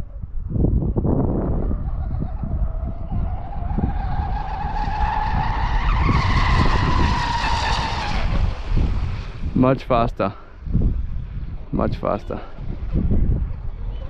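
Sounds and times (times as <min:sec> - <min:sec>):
low rumble: 0:00.0 - 0:11.7.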